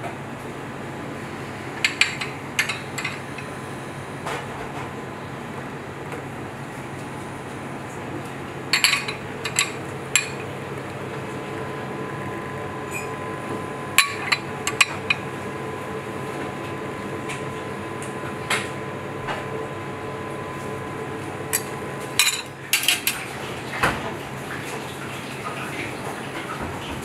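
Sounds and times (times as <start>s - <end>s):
kitchen hum: 0.0s - 27.0s.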